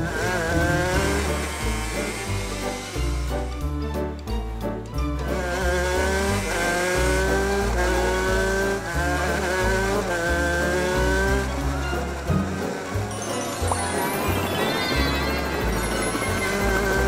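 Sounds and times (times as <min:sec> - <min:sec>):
cartoon race car engine revving: 0:00.0 - 0:03.7, 0:05.2 - 0:17.0
background music with bass line: 0:00.0 - 0:17.0.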